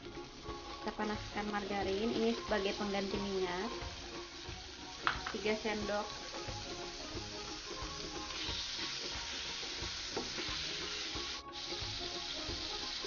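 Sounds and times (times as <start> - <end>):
margarine sizzling in a wok: 0.0 - 13.0.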